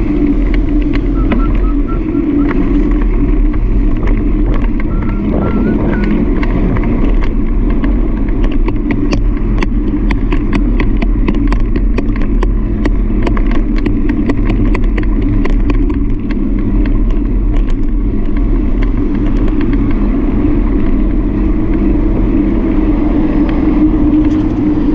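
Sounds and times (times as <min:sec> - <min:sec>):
bike ride running noise: 0:00.0 - 0:24.9
sharp rattles and clicks: 0:00.0 - 0:24.9.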